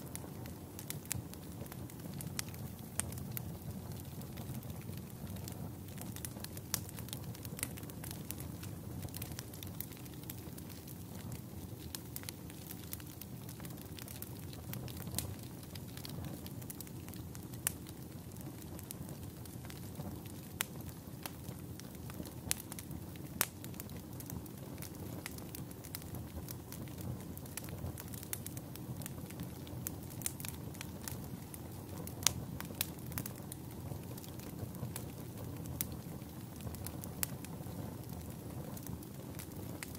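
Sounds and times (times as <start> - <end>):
burning wood popping and crackling: 0.0 - 39.9
campfire flames rumbling: 0.0 - 39.9.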